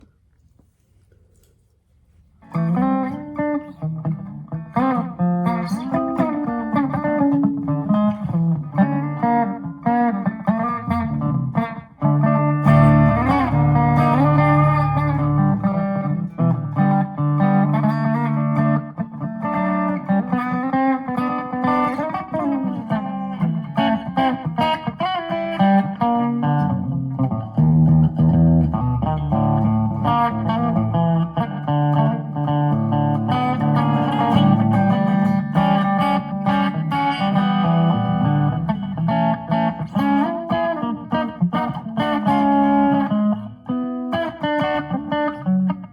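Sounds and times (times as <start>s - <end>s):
twangy electric guitar licks: 2.4s - 45.9s.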